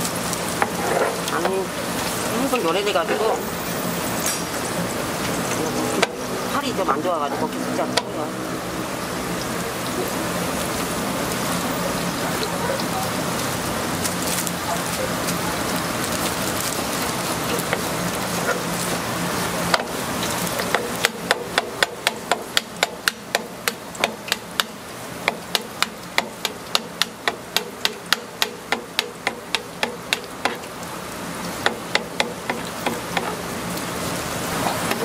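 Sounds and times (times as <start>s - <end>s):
deep fryer sizzling hiss: 0.0s - 35.0s.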